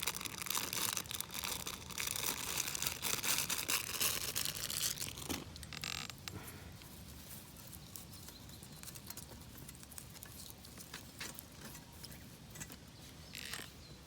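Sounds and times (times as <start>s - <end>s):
twig fire crackling: 0.0s - 13.7s.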